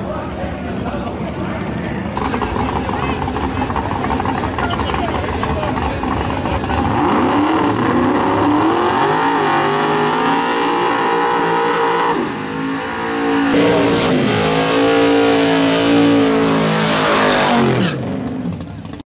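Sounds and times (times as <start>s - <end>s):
pickup engine starting and revving: 2.1s - 19.0s
car engine revving high: 2.2s - 18.5s.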